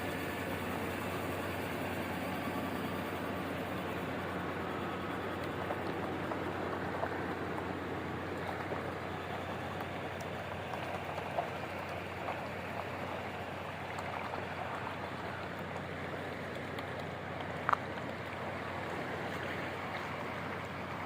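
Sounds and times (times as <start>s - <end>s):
flooding river water rushing: 0.0s - 21.0s
small splashes: 0.0s - 21.0s.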